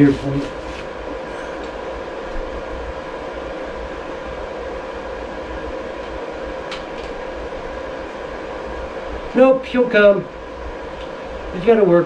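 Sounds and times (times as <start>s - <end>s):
faint constant whine: 0.0s - 12.0s
steady mechanical hum: 0.0s - 12.0s.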